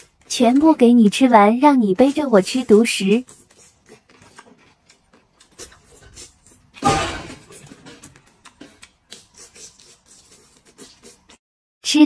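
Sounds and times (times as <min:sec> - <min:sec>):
chewing: 0:00.0 - 0:00.9, 0:02.0 - 0:11.4.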